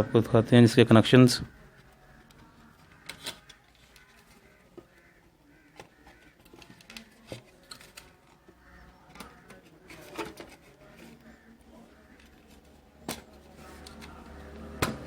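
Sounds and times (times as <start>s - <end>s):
parts clicking and knocking: 1.7s - 11.4s, 12.1s - 15.0s.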